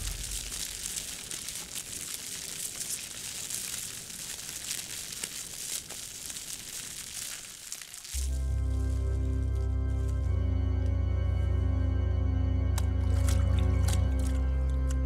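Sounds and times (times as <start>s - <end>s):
material crinkling like fire crackle: 0.0s - 11.0s, 12.7s - 15.0s.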